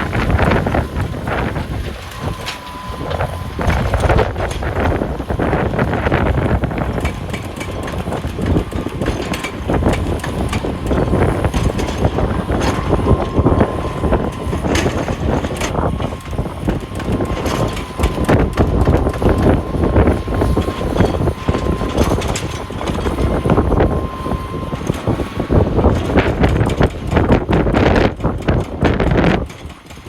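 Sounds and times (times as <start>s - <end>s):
steady high whine: 0.0s - 29.4s
diesel engine running: 0.0s - 30.0s.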